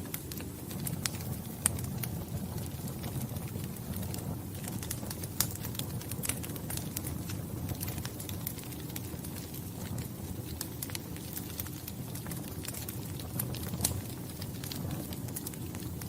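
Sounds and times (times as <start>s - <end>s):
fire pops and snaps: 0.0s - 16.0s
fire rumbling: 0.0s - 16.0s.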